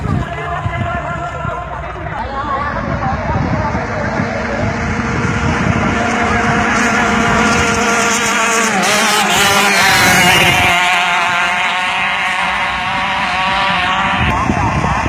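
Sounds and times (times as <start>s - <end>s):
racing boat engine at high revs: 0.0s - 15.0s.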